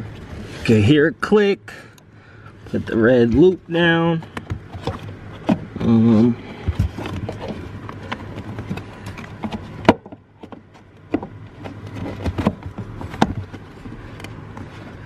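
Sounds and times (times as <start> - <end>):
carpet rustling: 0.0 - 1.4, 2.5 - 15.0.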